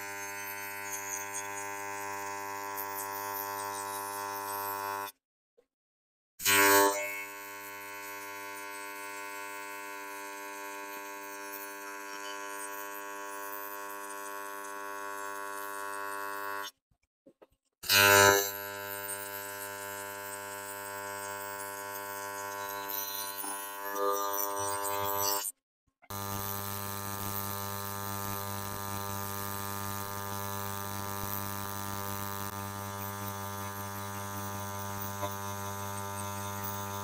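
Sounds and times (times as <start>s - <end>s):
welding arc buzzing hum: 0.0s - 5.0s, 6.8s - 16.7s, 17.9s - 25.4s, 26.1s - 37.0s.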